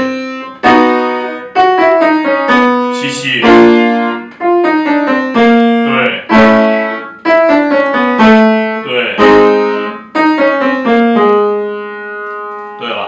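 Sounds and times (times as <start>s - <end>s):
upright piano playing: 0.0s - 13.0s.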